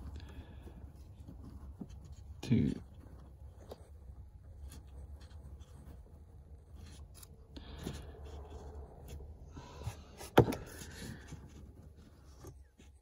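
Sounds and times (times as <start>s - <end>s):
low steady hum: 0.0s - 13.0s
wires rubbing and scraping: 0.0s - 13.0s.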